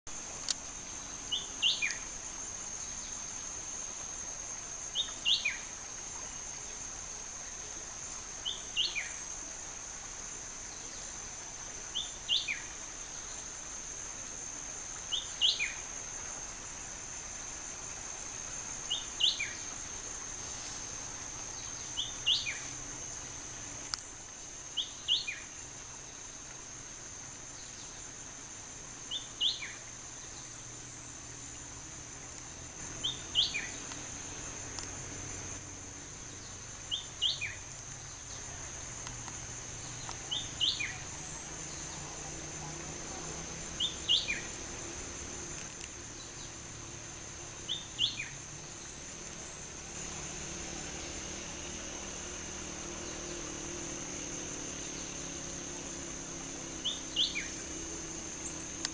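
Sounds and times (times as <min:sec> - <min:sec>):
high insect buzz: 0:00.1 - 0:58.9.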